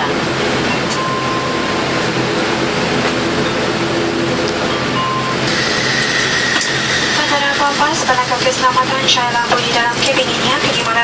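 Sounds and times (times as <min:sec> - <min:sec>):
turboprop cabin drone: 0:00.0 - 0:11.0.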